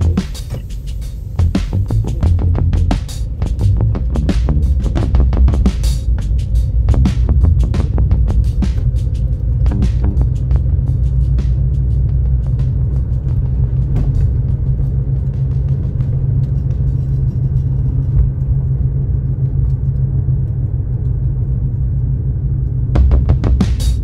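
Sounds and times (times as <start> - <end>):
car driving rumble: 0.0 - 24.0.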